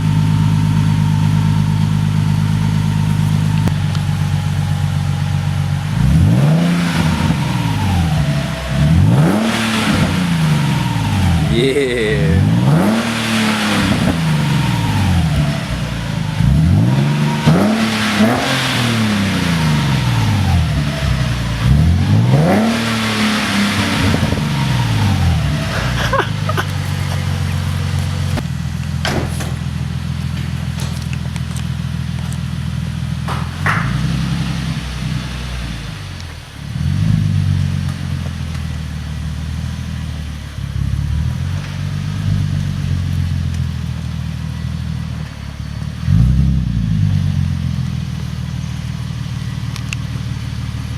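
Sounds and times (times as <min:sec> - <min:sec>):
car engine revving and idling: 0:00.0 - 0:50.9.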